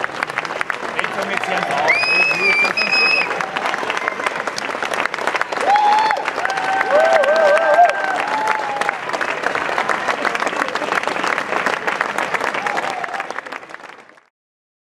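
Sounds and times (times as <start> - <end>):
crowd cheering: 0.0 - 14.3
crowd clapping: 0.0 - 14.3.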